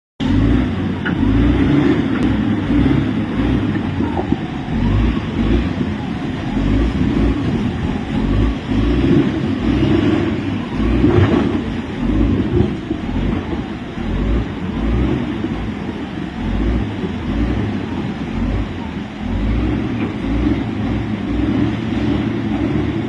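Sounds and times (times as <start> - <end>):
tractor engine running: 0.2 - 23.0.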